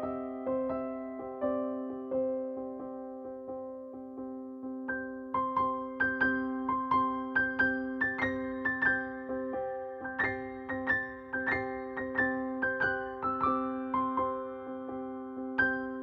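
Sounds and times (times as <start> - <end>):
soft piano tune: 0.0 - 16.0.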